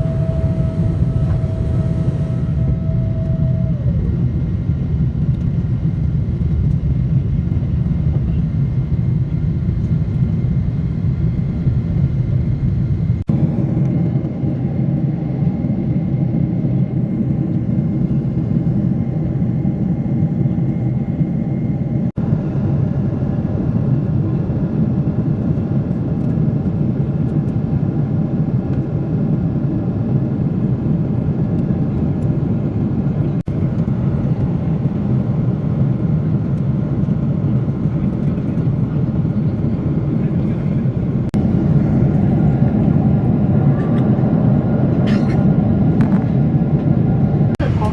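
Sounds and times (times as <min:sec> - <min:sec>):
jet engine cabin rumble: 0:00.0 - 0:47.9.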